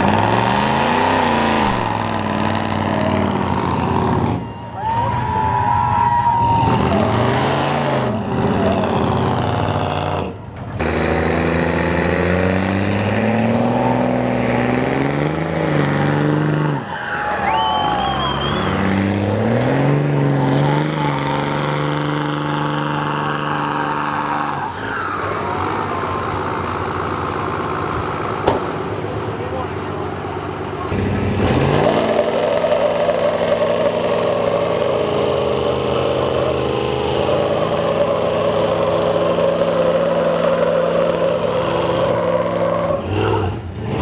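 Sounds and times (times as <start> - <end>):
truck engines revving hard: 0.0 - 44.0.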